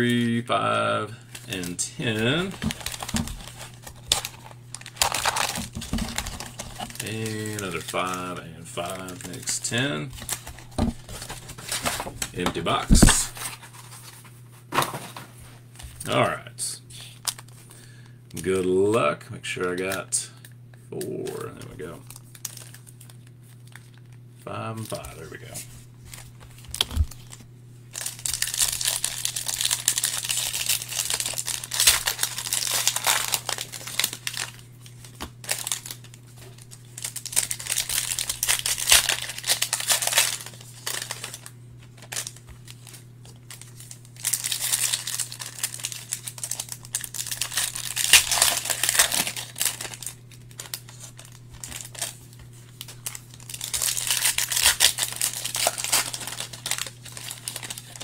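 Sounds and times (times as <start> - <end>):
steady low hum: 0.0 - 58.0
foil wrappers tearing and crinkling: 1.3 - 14.2, 17.2 - 18.0, 21.0 - 58.0.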